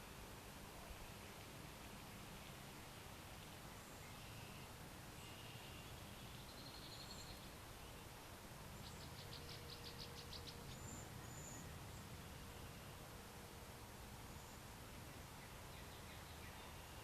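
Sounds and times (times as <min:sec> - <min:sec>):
low steady background noise: 0:00.0 - 0:17.0
distant birds singing: 0:02.1 - 0:17.0.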